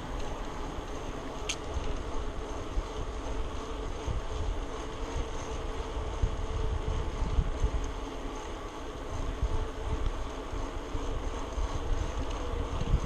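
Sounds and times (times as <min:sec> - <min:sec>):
faint hum of bicycle ride: 0:00.0 - 0:13.0
wind buffeting microphone: 0:00.0 - 0:13.0.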